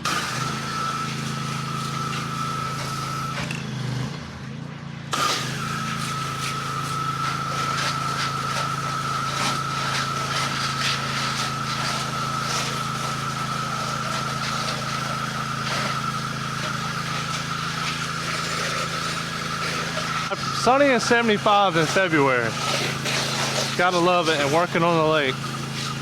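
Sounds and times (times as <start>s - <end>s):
water spray hissing: 0.0s - 3.4s, 5.4s - 26.0s
pressure washer engine whining: 0.0s - 26.0s.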